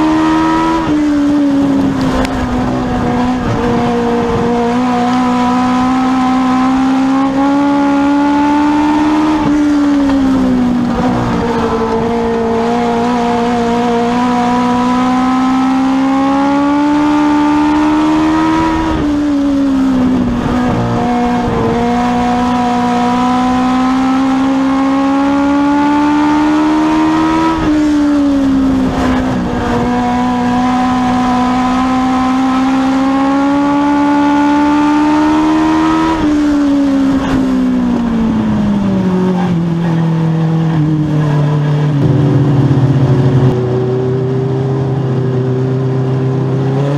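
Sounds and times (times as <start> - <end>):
race car engine under hard throttle: 0.0 - 46.9.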